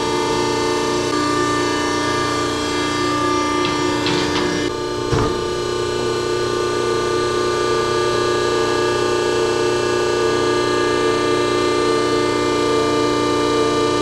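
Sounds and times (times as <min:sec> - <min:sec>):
hydraulic pump humming: 0:00.0 - 0:13.3.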